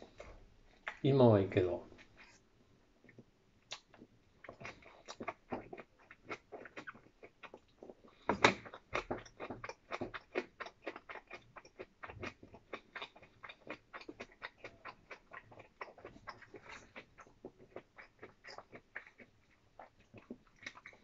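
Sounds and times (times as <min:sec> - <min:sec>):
chewing: 0:00.0 - 0:01.0, 0:03.0 - 0:21.0.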